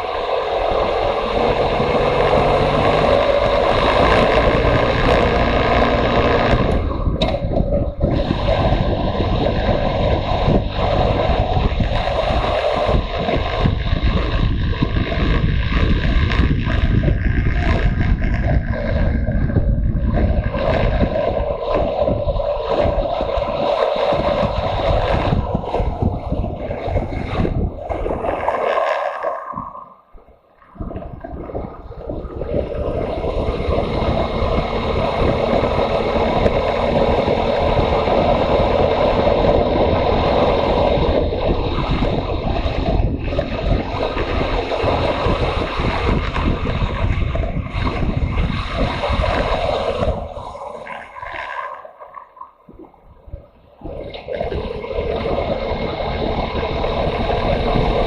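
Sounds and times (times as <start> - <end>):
motorcycle engine running: 0.0 - 27.8, 32.6 - 50.4, 54.7 - 58.0
wind noise on microphone: 0.0 - 58.0.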